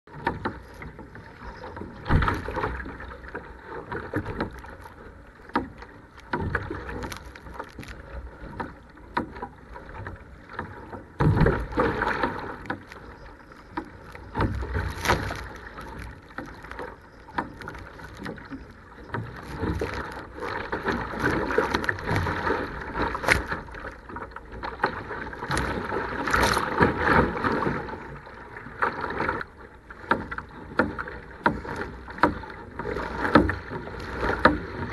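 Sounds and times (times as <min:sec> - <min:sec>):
waves slapping kayak hull: 0:00.0 - 0:34.9
water rushing and splashing: 0:00.1 - 0:34.9.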